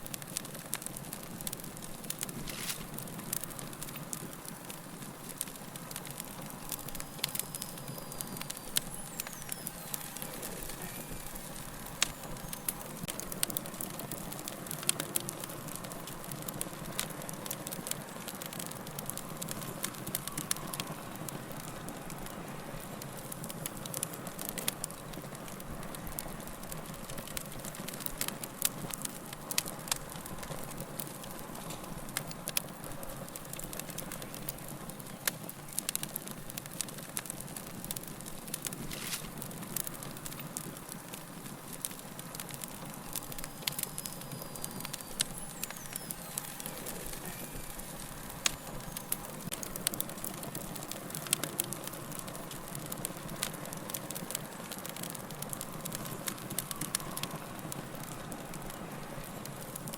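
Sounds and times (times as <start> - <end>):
crackles and pops of burning logs: 0.0 - 59.9
wood fire rushing: 0.1 - 59.9.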